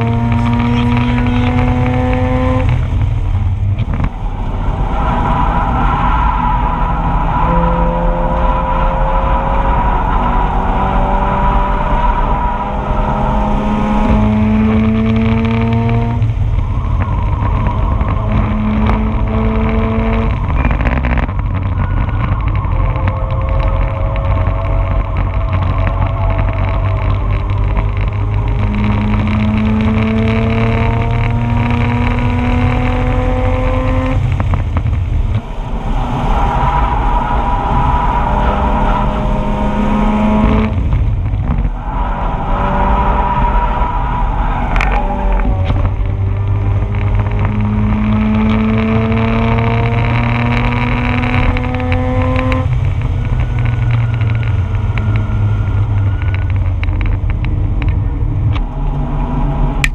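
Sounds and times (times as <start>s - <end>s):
rotary engine revving at full throttle: 0.0s - 59.9s.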